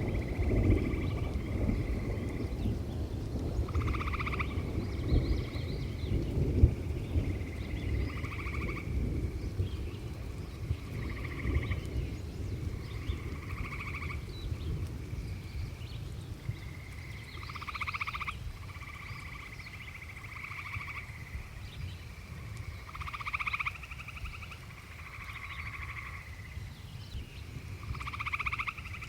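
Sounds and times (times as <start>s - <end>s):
frogs trilling: 0.0s - 29.0s.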